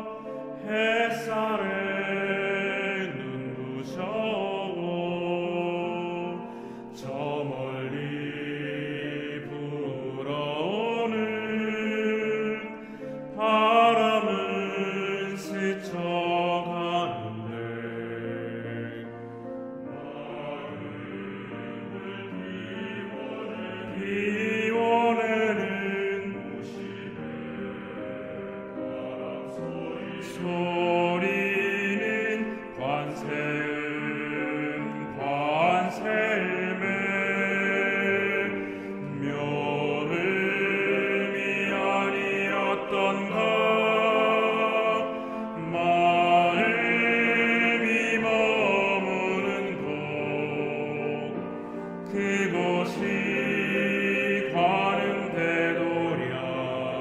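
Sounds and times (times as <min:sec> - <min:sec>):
male choir singing a hymn: 0:00.0 - 0:57.0.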